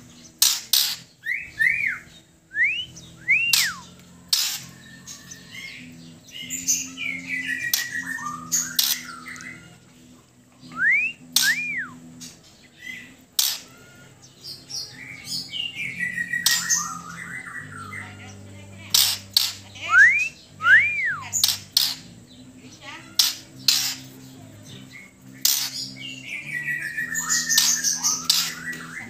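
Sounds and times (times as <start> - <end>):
bird singing: 0.0 - 29.0
sharp clicking bird notes: 0.2 - 1.8, 2.6 - 5.8, 6.8 - 13.8, 15.6 - 29.0.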